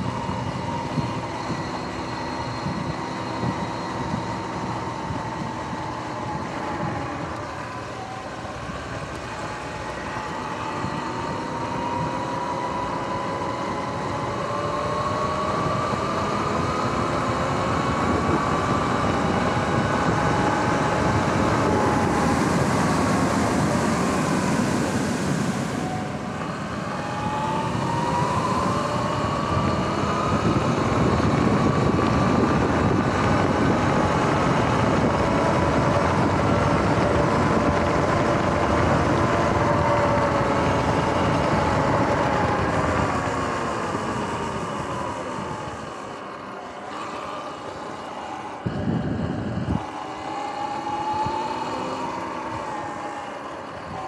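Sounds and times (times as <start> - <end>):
electric motor whining: 0.0 - 54.0
wind and tyre noise: 0.0 - 54.0.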